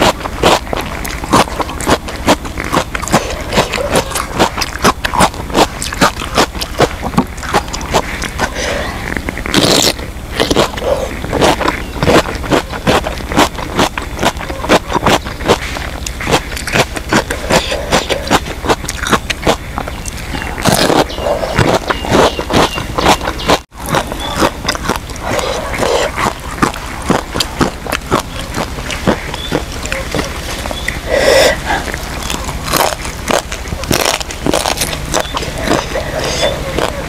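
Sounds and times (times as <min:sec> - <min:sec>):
cucumber bitten crunch: 0:00.0 - 0:37.0
wet chewing and crunching: 0:00.0 - 0:37.0.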